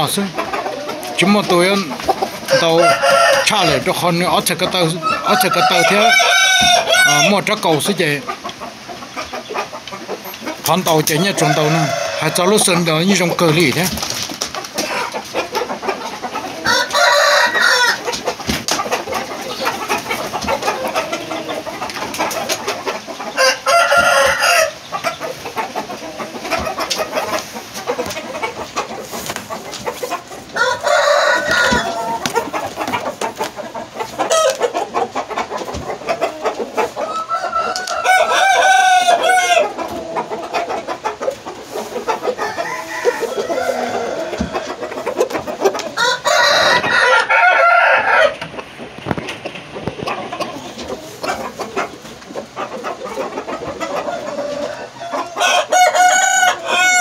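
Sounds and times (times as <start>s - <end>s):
roosters crowing: 0.0s - 14.0s, 14.6s - 48.7s, 49.7s - 57.0s
chickens clucking: 0.0s - 57.0s.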